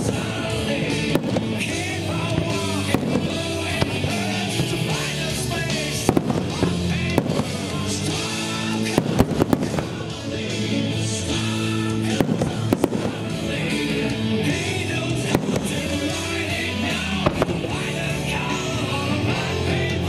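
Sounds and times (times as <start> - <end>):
fireworks bangs and cracks: 0.0 - 20.0
music with singing voice: 0.0 - 20.0.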